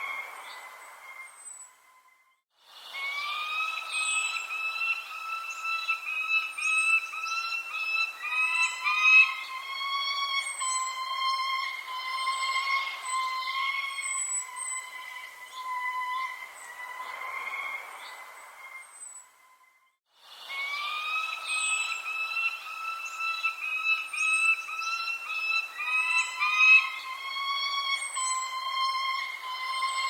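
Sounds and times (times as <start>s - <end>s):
steady whistled bird call: 0.0s - 30.0s
high falling bird chirps: 2.9s - 19.3s, 20.4s - 30.0s.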